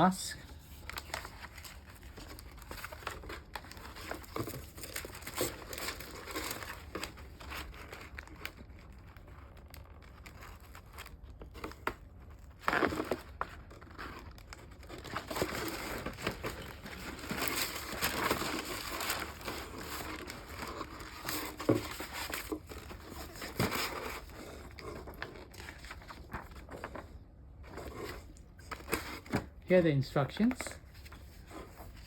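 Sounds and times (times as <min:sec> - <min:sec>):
plastic packaging crinkling: 0:00.0 - 0:32.0.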